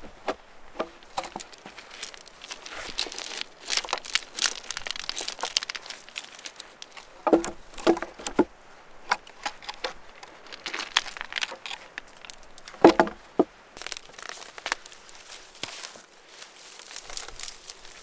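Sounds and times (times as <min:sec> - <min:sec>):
gear crinkling and rustling: 0:00.0 - 0:18.0.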